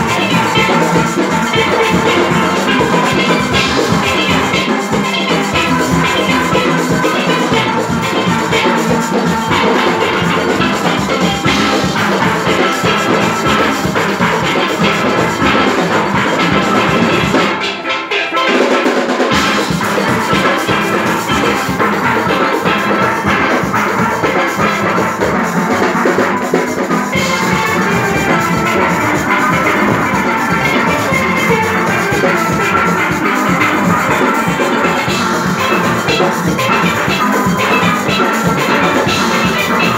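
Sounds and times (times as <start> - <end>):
drum rhythm section: 0.0 - 39.9
steelpans playing: 0.0 - 39.9.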